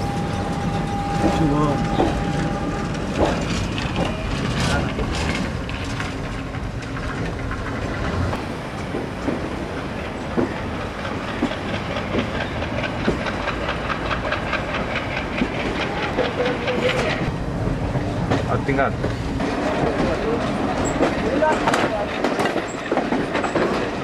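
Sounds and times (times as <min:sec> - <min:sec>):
train rumbling on rails: 0:00.0 - 0:24.0
wheel clatter over rail joints: 0:00.1 - 0:24.0.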